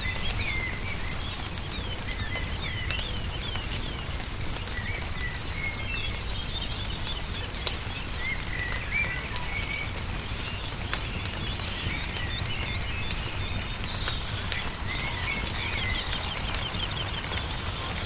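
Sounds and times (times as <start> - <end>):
small birds chirping: 0.0 - 18.0
wood fire crackling and popping: 0.0 - 18.0.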